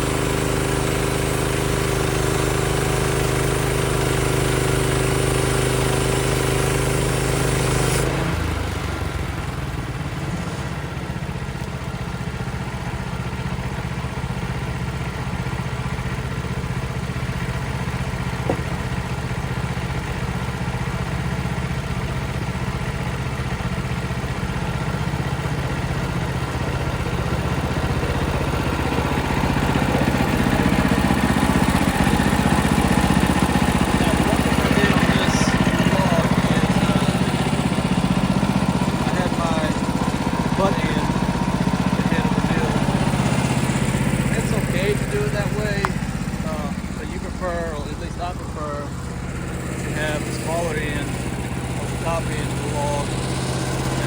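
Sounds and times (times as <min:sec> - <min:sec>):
small gas engine running: 0:00.0 - 0:54.0.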